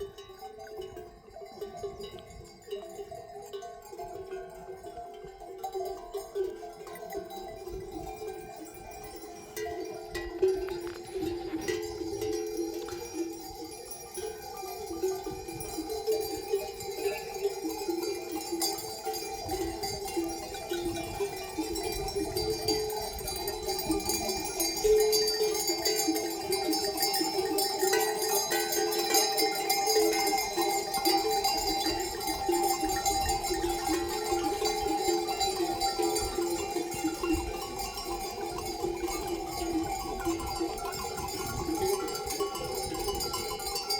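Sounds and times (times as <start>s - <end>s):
sheep neck bells jangling: 0.0s - 43.9s.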